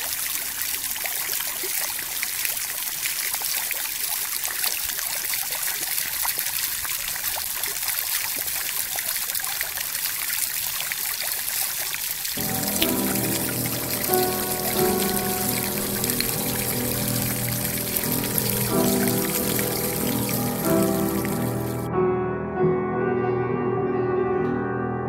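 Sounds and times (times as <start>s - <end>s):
stream trickling over stones: 0.0s - 21.9s.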